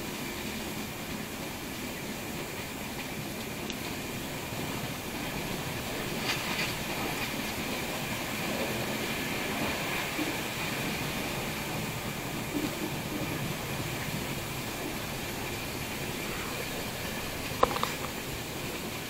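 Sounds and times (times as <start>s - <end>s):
rushing air: 0.0s - 19.0s
train wheels rumbling on rail: 0.0s - 19.0s.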